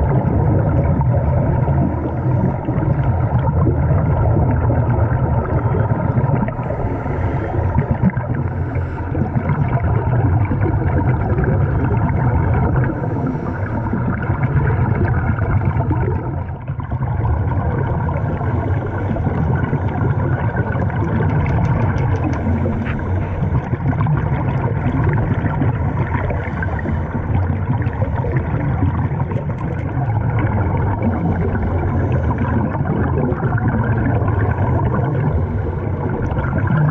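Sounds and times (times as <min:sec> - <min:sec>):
divers breathing bubbles: 0:00.0 - 0:36.9
muffled underwater rumble: 0:00.0 - 0:36.9.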